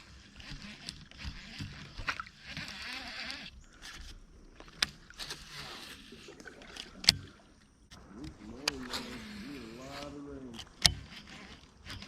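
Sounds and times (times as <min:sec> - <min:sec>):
water swishing around kayak: 0:00.0 - 0:12.0.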